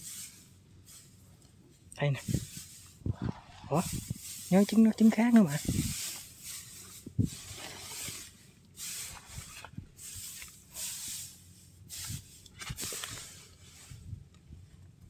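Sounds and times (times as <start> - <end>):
straw rustling: 2.2 - 14.9.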